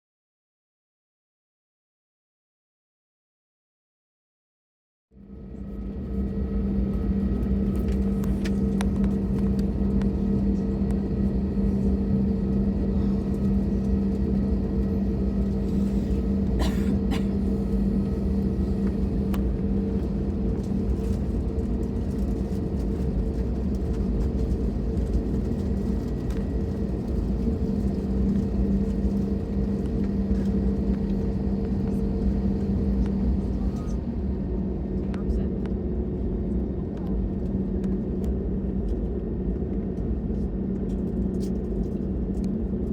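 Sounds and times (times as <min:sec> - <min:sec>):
airplane cabin engine rumble: 0:05.2 - 0:42.9.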